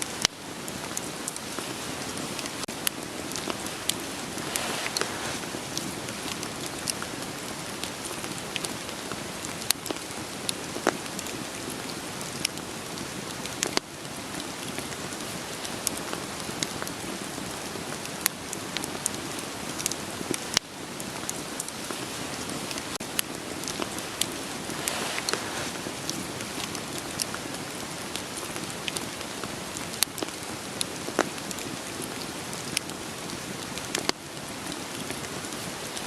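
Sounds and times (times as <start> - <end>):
rain hissing: 0.0 - 36.0
firewood crackling and popping: 0.1 - 36.0.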